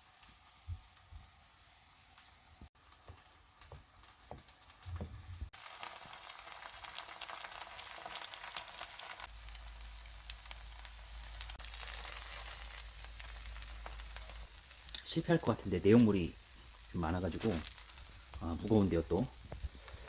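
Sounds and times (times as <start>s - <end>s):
batter sizzling in hot oil: 0.0s - 20.0s.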